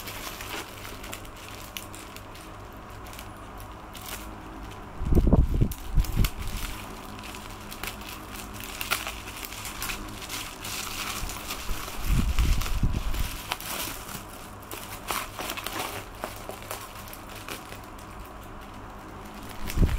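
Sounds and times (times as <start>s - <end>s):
bubble wrap crinkling: 0.0s - 19.9s
plastic bag crinkling: 0.0s - 19.9s.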